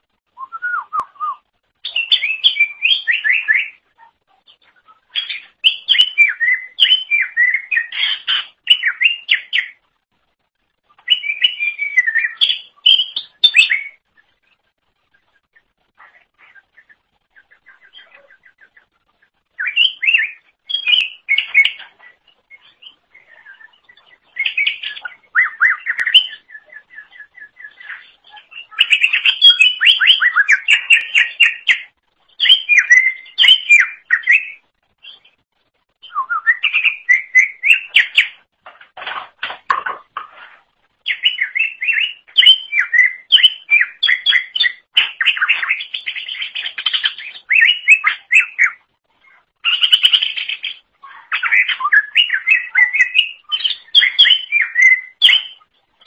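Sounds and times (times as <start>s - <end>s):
bird singing whistled notes: 0.3s - 3.8s, 4.6s - 9.8s, 10.9s - 14.5s, 19.5s - 35.4s, 36.0s - 38.4s, 41.0s - 55.7s.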